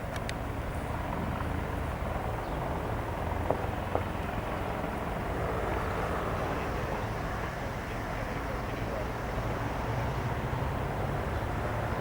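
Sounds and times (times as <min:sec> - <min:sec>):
faint turbine whine: 0:00.0 - 0:12.0
helicopter rotor beat: 0:00.0 - 0:12.0.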